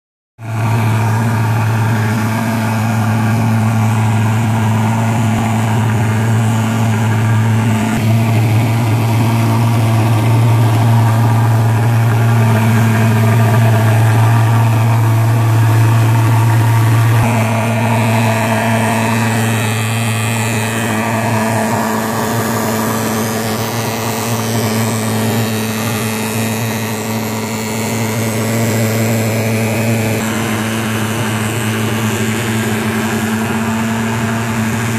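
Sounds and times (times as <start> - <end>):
pulse-jet engine buzzing drone: 0.4 - 34.9.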